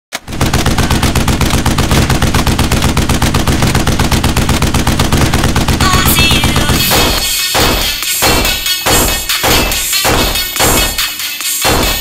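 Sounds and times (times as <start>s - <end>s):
machine-gun fire: 0.2s - 12.0s.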